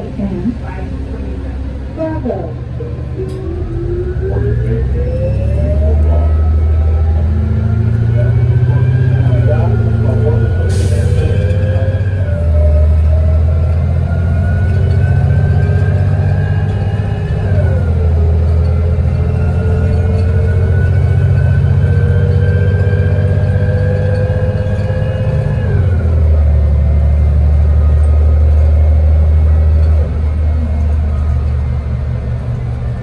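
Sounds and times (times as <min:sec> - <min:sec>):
bus engine accelerating: 0:00.0 - 0:33.0.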